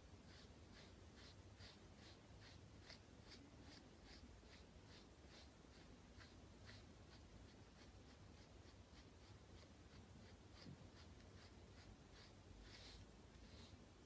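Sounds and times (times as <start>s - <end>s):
brush scratching through fur: 0.0s - 14.0s.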